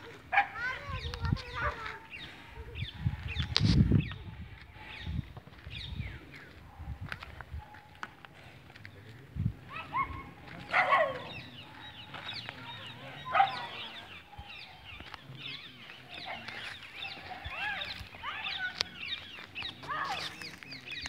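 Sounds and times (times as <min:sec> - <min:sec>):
loud bird calls: 0:00.0 - 0:06.8, 0:08.4 - 0:21.0
birds chirping: 0:00.0 - 0:21.0.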